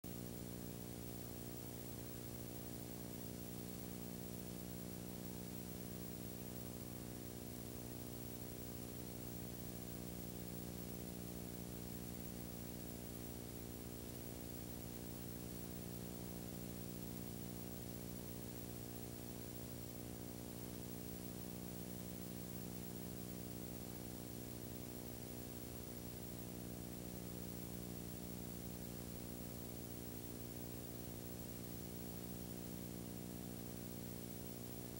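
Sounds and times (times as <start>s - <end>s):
constant hiss: 0.1s - 34.9s
electrical hum: 0.1s - 34.9s.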